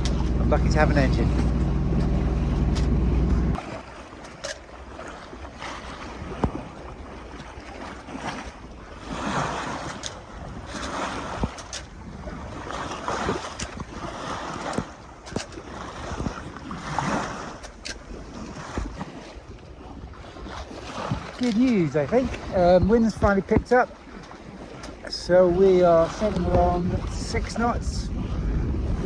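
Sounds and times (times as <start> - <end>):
wind buffeting microphone: 0.0 - 3.8, 5.3 - 29.0
water rushing past boat hull: 0.0 - 29.0.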